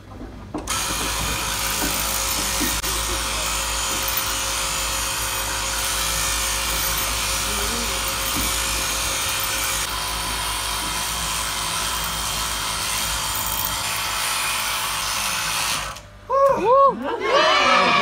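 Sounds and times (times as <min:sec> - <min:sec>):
sheep shearing handpiece running: 0:00.7 - 0:16.0.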